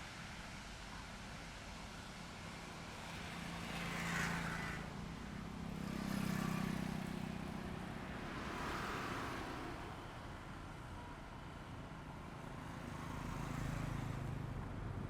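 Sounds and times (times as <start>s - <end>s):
vehicles passing on highway: 0.0s - 15.0s.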